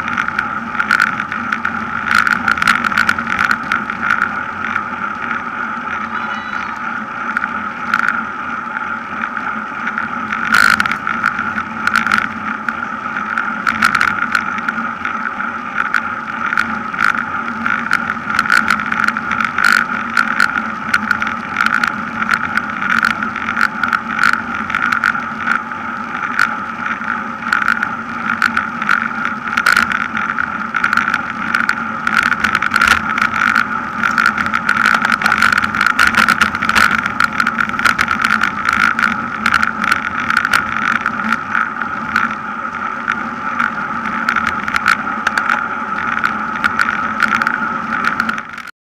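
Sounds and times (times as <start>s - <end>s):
bike clicks and rattles: 0.0s - 6.0s, 9.3s - 15.2s, 15.8s - 42.4s, 43.0s - 48.7s
wind and road noise: 0.0s - 48.7s.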